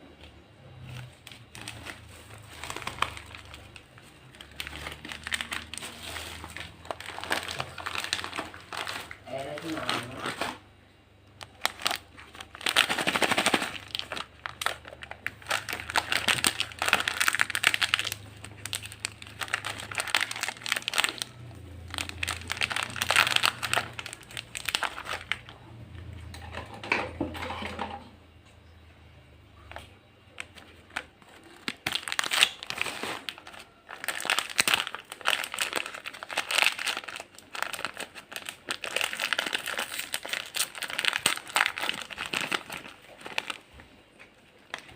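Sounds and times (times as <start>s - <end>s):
plastic snack packets crinkling: 0.8s - 10.6s, 11.3s - 26.1s, 29.6s - 44.9s.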